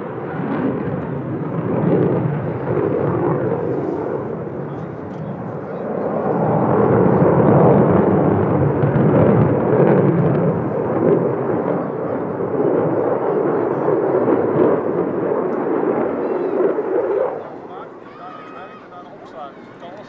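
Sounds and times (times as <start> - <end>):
jet engine rumble: 0.0 - 20.0.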